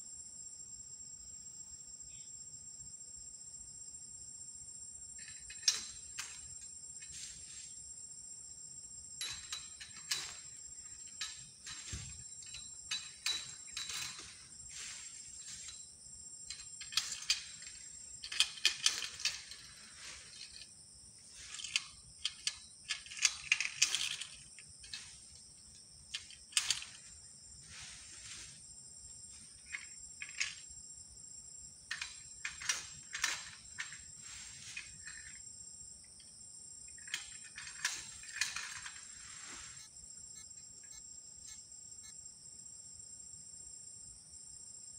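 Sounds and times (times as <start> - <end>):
insect chirps and clicks: 0.0 - 44.9.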